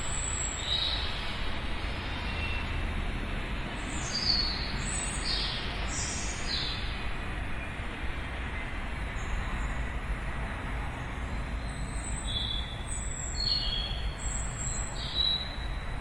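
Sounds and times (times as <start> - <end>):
distant city rumble: 0.0 - 16.0.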